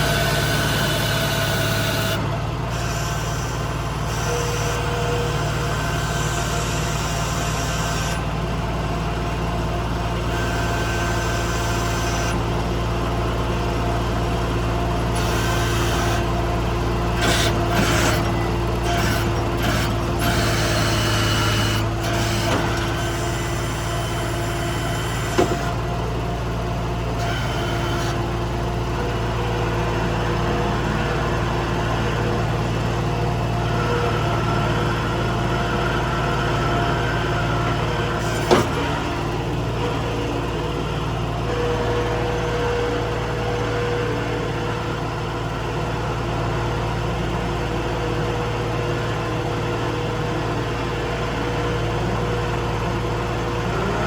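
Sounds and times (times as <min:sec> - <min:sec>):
skid steer loader engine running: 0:00.0 - 0:54.0.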